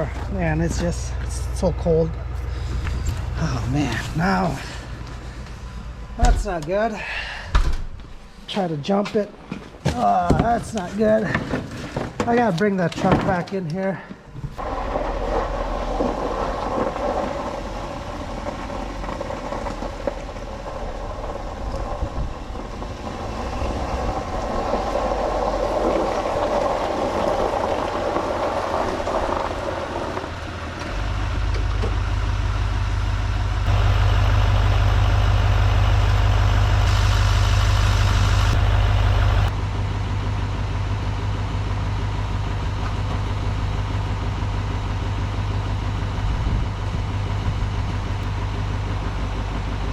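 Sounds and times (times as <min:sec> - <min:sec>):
vehicle engine running: 0:00.0 - 0:07.2, 0:14.4 - 0:49.9
deep low hum: 0:00.0 - 0:08.5, 0:14.3 - 0:49.9.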